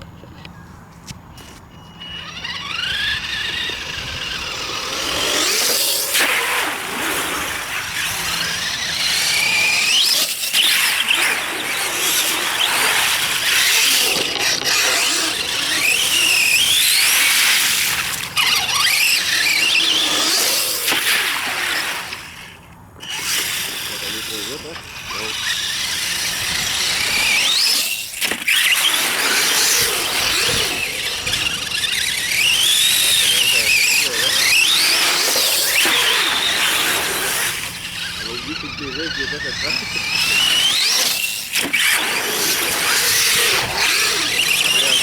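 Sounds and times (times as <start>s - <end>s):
rc truck motor whining: 0.0s - 45.0s.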